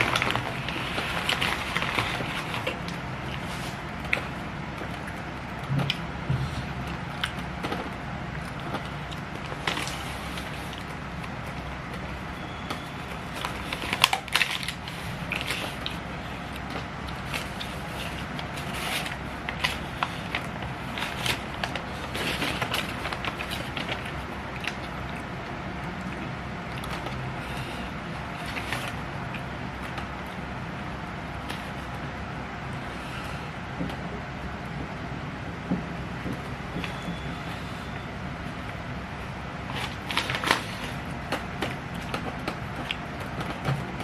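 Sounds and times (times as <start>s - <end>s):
chewing and crunching food: 0.0s - 34.0s, 38.6s - 44.0s
low background hum: 0.0s - 44.0s.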